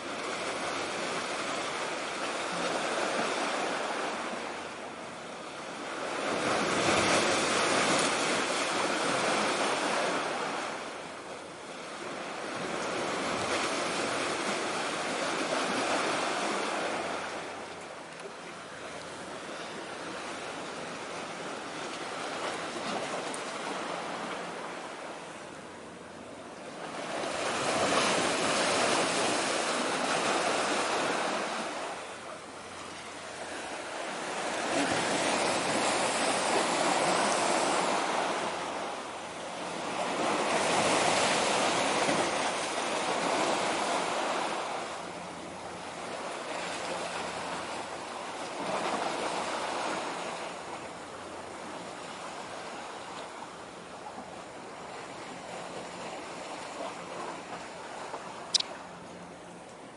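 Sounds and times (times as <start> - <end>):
small waves washing on shore: 0.0 - 59.9.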